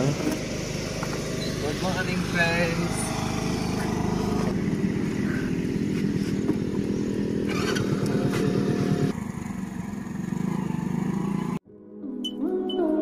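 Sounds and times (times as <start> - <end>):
small motorcycle engine running: 0.0 - 11.6.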